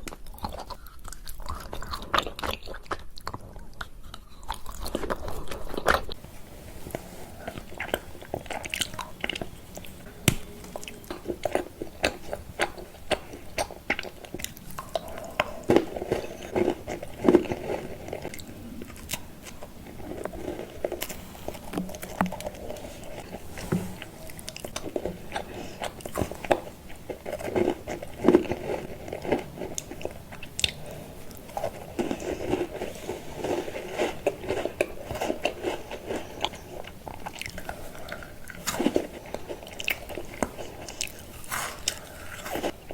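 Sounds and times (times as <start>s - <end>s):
person chewing crunchy candy: 0.0s - 42.9s.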